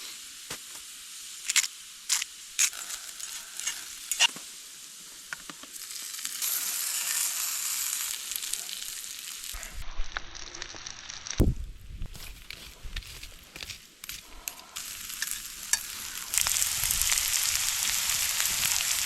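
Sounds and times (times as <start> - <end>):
meat sizzling in a frying pan: 0.0 - 11.5, 14.7 - 19.0.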